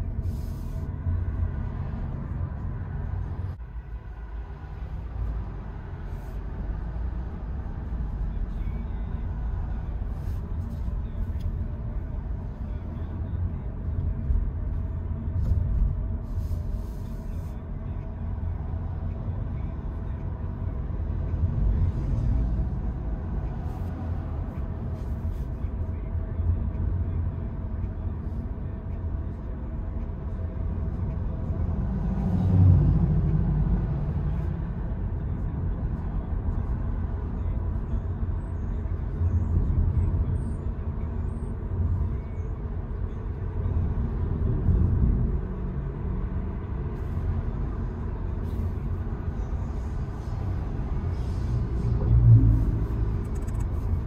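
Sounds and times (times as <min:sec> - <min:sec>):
passing traffic: 0:00.0 - 0:54.0
road rumble of tyres: 0:00.0 - 0:54.0.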